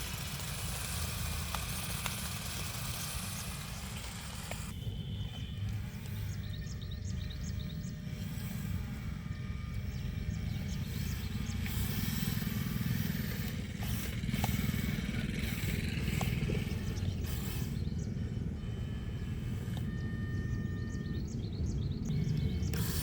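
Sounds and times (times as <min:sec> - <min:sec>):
motor running: 0:00.0 - 0:23.0.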